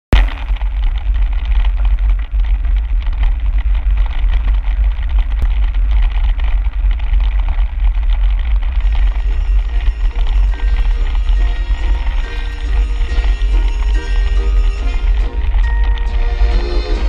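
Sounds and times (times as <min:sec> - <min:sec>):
bicycle tyres rolling on gravel: 0:00.1 - 0:16.9
wind buffeting microphone: 0:00.2 - 0:17.0.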